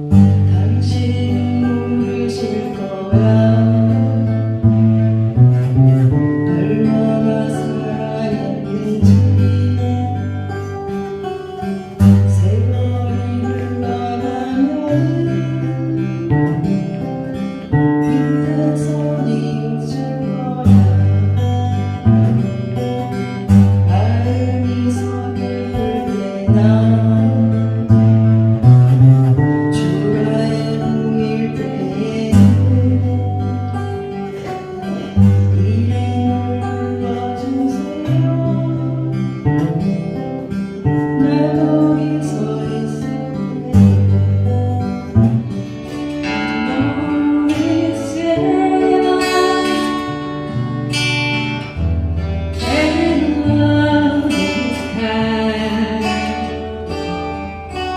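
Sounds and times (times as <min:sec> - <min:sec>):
acoustic guitars strumming: 0:00.0 - 0:57.9.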